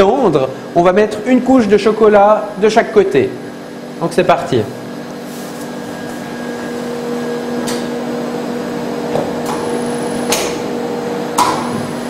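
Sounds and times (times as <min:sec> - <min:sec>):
tempering machine humming: 0:00.0 - 0:12.0.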